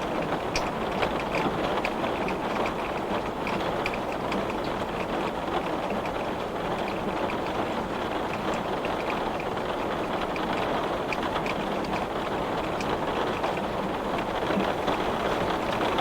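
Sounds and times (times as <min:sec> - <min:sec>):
heavy rain on glass: 0:00.0 - 0:16.0.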